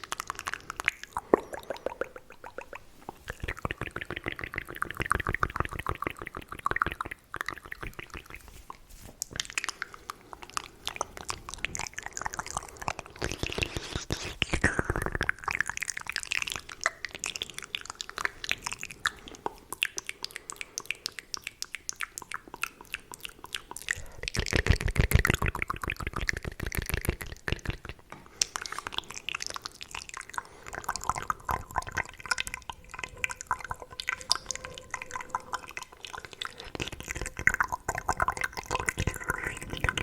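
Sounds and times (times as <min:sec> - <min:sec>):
wet mouth clicks and smacks: 0:00.0 - 0:40.0.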